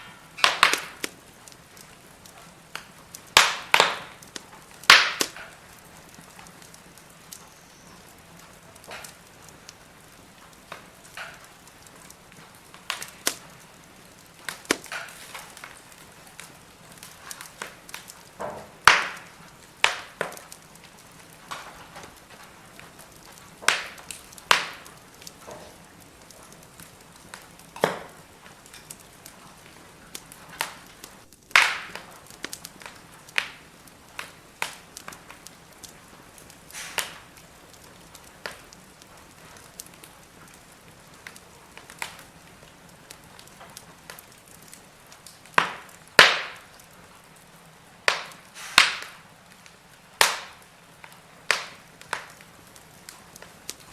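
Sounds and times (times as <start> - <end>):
faint steady hiss: 0.0 - 53.9
firewood crackling and popping: 0.0 - 53.9.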